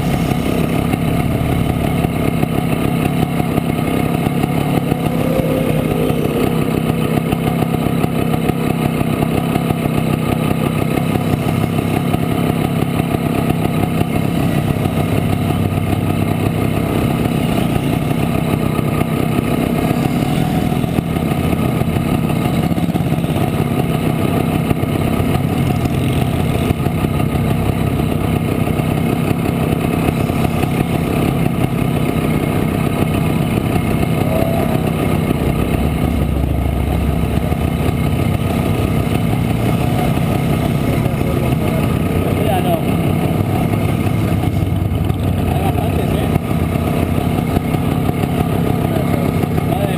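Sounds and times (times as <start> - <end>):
two-stroke motorcycle engine running: 0.0 - 49.9.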